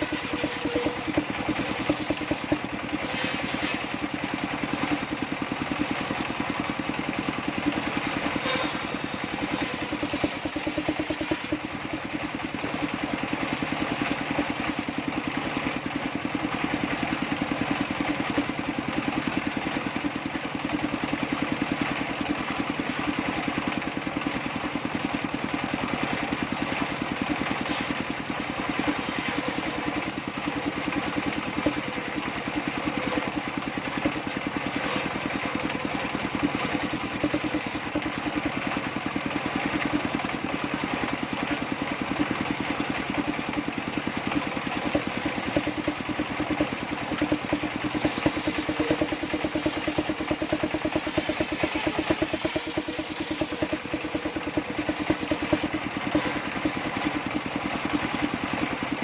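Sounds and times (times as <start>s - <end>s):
engine-driven circular saw running: 0.0s - 59.0s.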